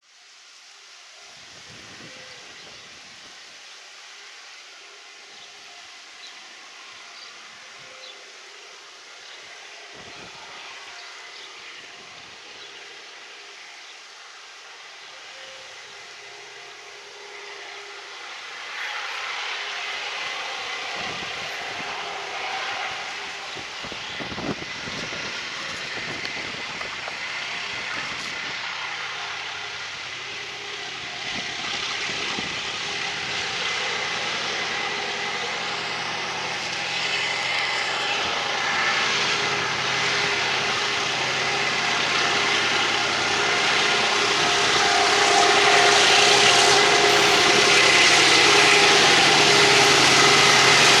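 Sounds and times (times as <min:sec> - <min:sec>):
diesel locomotive engine drone: 0:00.0 - 0:51.0.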